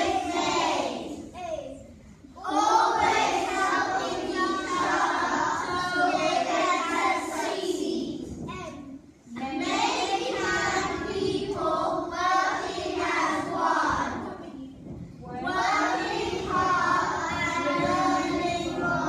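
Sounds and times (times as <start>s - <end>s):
children singing in unison: 0.0s - 1.3s, 2.4s - 8.2s, 9.4s - 14.3s, 15.2s - 19.0s.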